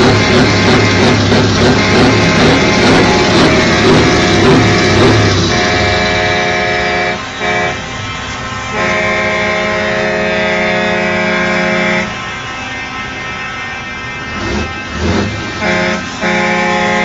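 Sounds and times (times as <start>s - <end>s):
truck air horn blasts: 0.0s - 17.0s
truck engine running: 0.0s - 17.0s.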